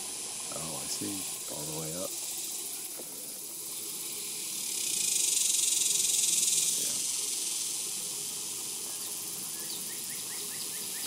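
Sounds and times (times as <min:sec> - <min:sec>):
background hiss: 0:00.0 - 0:11.0
insect buzzing: 0:00.0 - 0:11.0.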